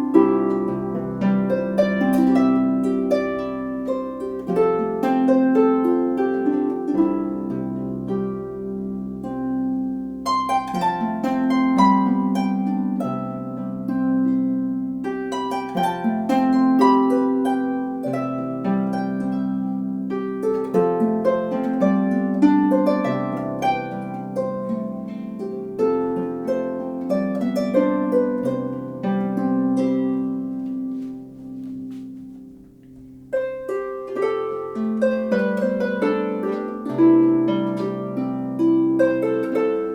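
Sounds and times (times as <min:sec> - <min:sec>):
harp playing a tune: 0:00.0 - 0:39.9.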